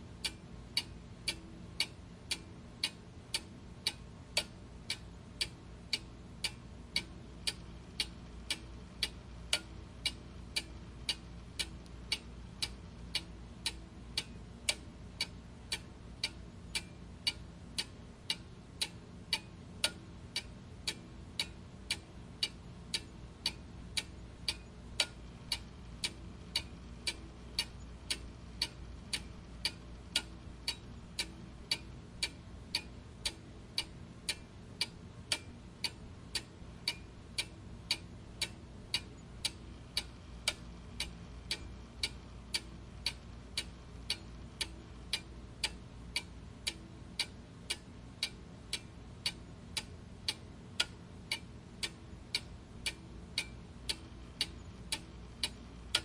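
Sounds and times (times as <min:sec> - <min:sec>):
faint low hum: 0:00.0 - 0:56.0
clock ticking: 0:00.2 - 0:56.0.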